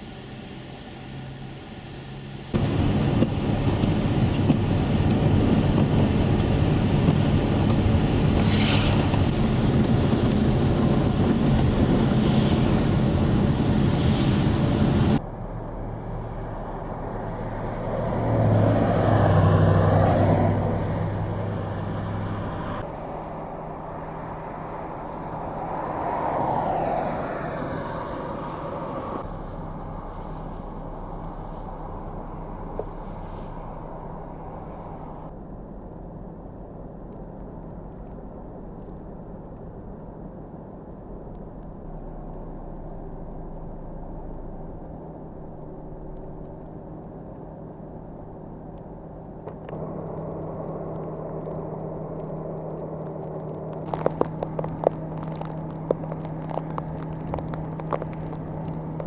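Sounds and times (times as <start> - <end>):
low engine hum: 0.0 - 59.0
vehicles passing on snowy road: 0.0 - 59.0.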